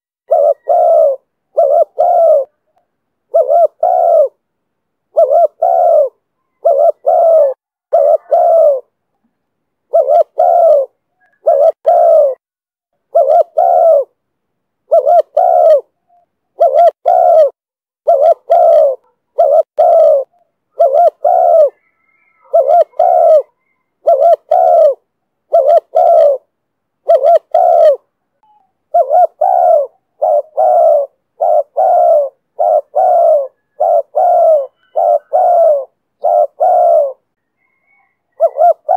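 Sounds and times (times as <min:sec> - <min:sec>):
dove cooing: 0:00.2 - 0:04.4, 0:05.1 - 0:09.0, 0:09.9 - 0:12.4, 0:13.0 - 0:14.2, 0:14.8 - 0:38.9.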